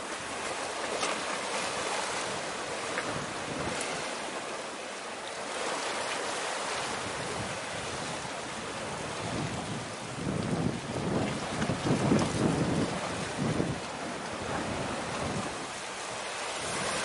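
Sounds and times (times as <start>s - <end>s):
sea waves rushing: 0.0s - 17.0s.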